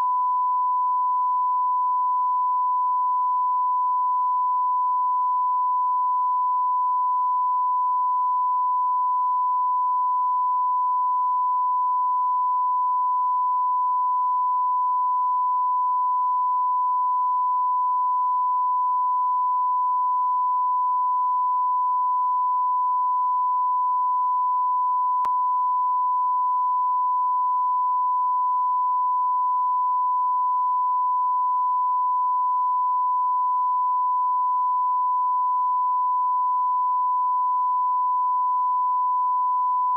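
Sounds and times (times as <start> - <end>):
electronic sine-wave tone: 0.0 - 39.9.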